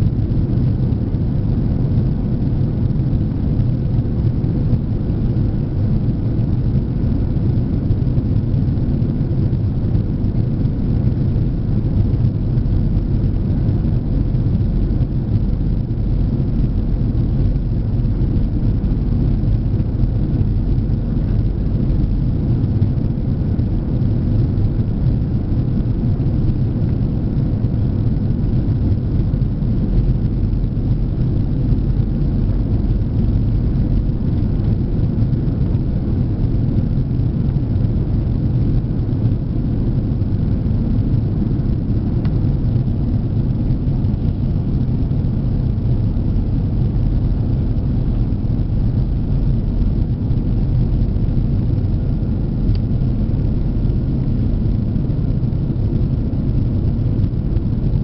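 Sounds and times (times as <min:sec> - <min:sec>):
faint steady hum: 0:00.0 - 0:58.0
jet engines and airflow rumble: 0:00.0 - 0:58.0.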